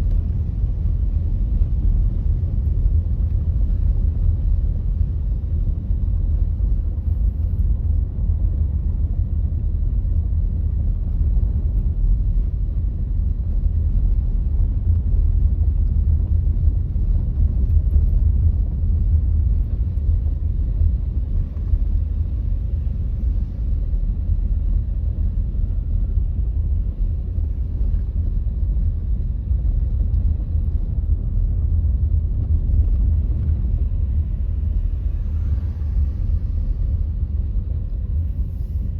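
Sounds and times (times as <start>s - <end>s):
car engine rumble: 0.0s - 38.9s
road noise: 0.0s - 38.9s.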